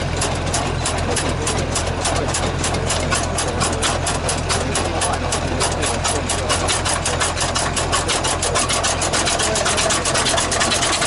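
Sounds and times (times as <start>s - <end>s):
tractor engine puttering: 0.0s - 11.0s.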